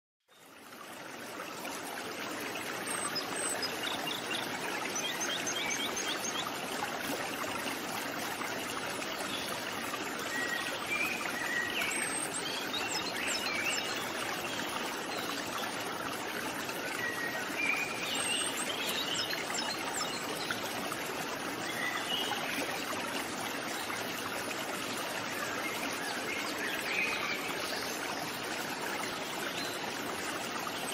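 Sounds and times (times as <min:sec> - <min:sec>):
flowing water: 0:00.2 - 0:30.9.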